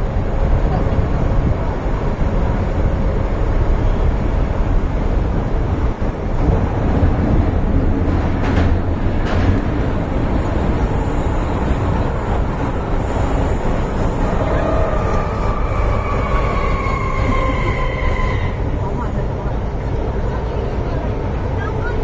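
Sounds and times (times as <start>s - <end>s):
train rumbling in tunnel: 0.0s - 22.0s.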